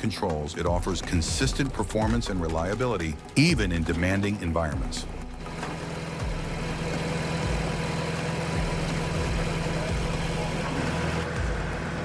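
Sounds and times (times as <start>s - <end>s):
log splitter engine running: 0.8s - 12.0s.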